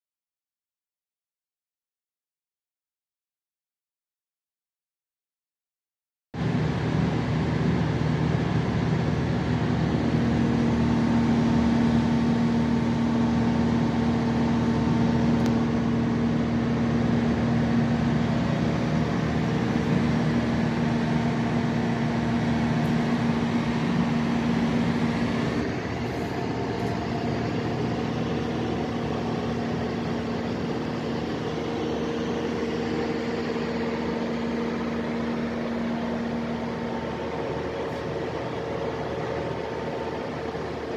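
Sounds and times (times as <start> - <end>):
diesel generator running: 6.4 - 40.9.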